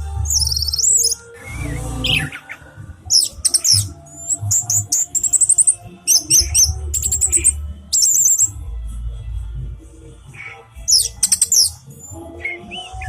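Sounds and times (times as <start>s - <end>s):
thrush singing: 0.0s - 13.0s.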